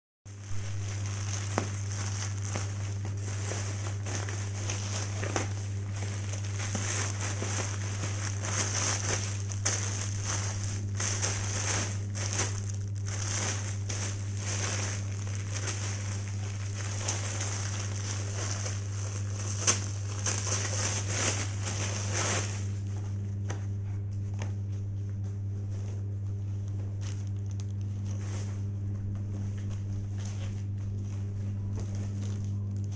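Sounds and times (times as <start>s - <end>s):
packaging crinkling and rustling: 0.3s - 32.9s
steady low hum: 0.3s - 32.9s.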